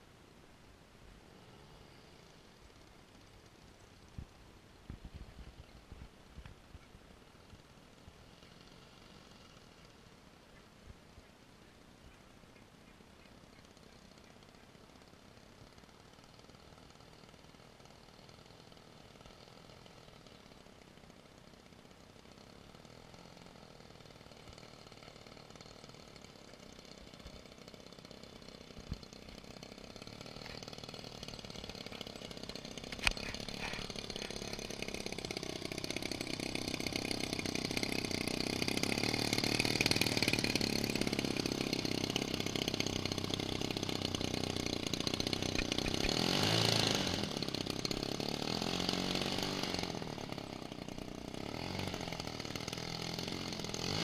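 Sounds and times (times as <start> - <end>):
model plane engine running: 1.3 - 10.2, 13.2 - 54.0.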